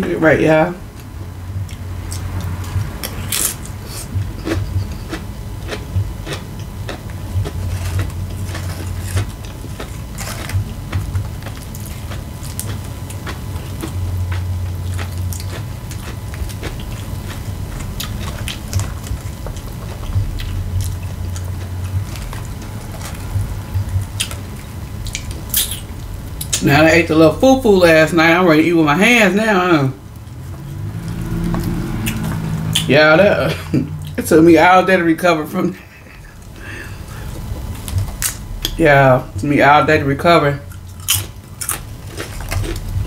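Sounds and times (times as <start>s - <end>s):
chewing crunchy chips: 0.9s - 27.9s, 30.1s - 34.2s, 35.8s - 38.8s, 40.6s - 43.0s.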